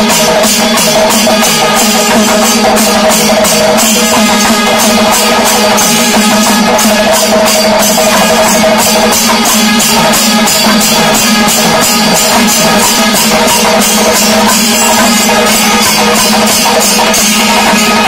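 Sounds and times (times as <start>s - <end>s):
drums beaten with sticks: 0.0s - 18.0s
hand cymbals clashing: 0.0s - 18.0s
steady held notes: 0.0s - 18.0s.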